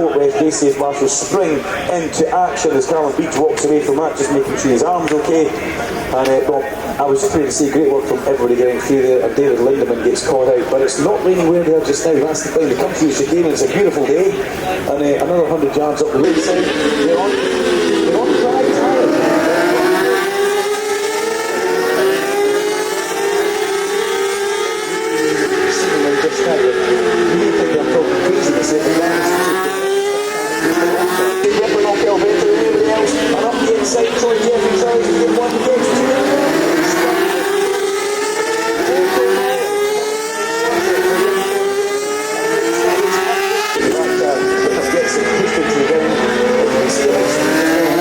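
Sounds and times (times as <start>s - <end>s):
racing motorcycle engines revving: 0.0s - 48.0s.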